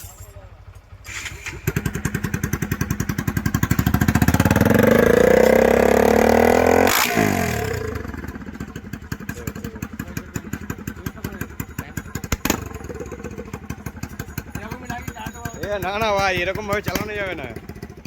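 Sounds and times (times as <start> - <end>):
exhaust crack: 0.0 - 18.0
motorcycle engine revving: 0.0 - 18.0.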